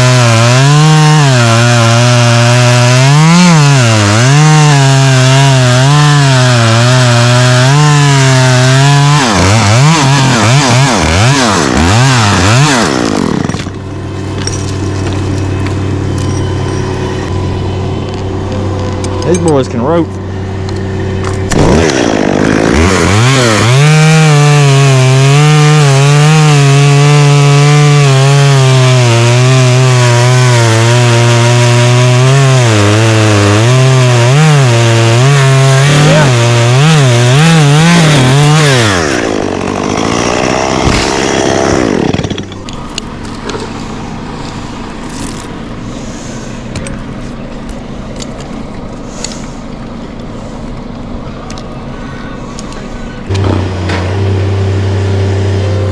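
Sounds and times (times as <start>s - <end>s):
chainsaw cutting wood: 0.0s - 17.4s, 20.6s - 46.9s, 52.5s - 55.9s.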